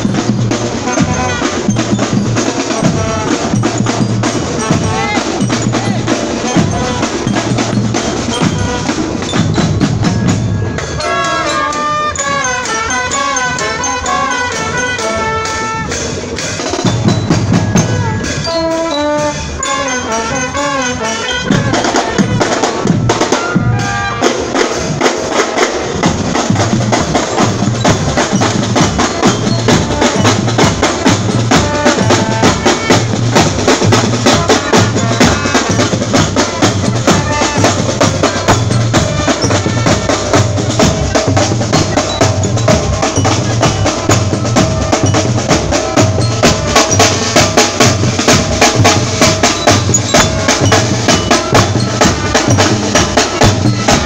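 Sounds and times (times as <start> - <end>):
brass melody: 0.0 - 54.0
marching drum beat: 0.0 - 54.0.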